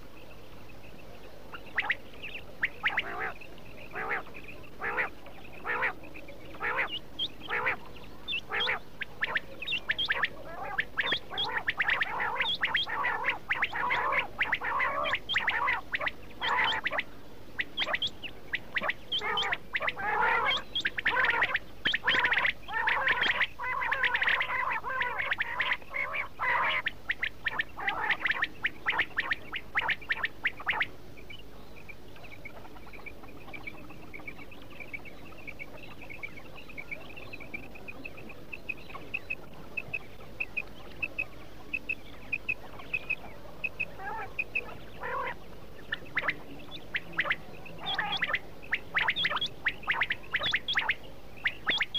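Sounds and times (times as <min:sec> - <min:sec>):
quail calling: 0:01.5 - 0:30.9, 0:32.4 - 0:51.9.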